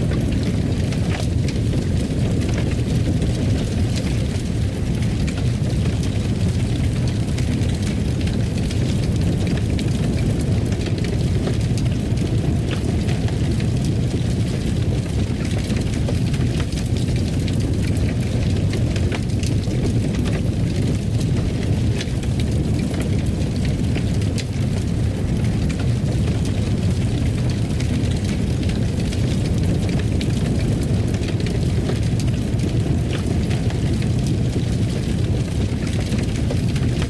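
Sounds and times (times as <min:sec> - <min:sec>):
fire crackling and popping: 0:00.0 - 0:37.0
fire roaring: 0:00.0 - 0:37.0.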